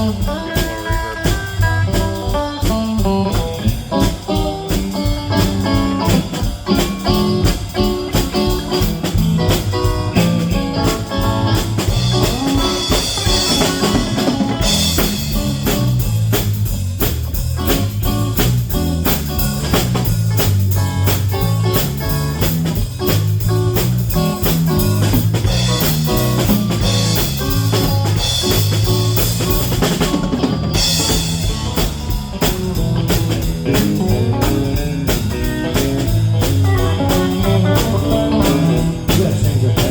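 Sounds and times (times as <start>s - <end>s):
drum kit beat: 0.0s - 39.9s
live band playing: 0.0s - 39.9s.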